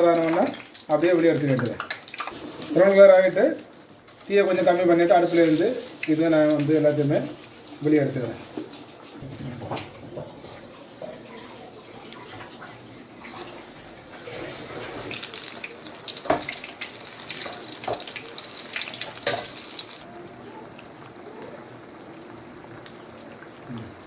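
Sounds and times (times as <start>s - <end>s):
hot oil sizzling and crackling: 0.0s - 24.0s.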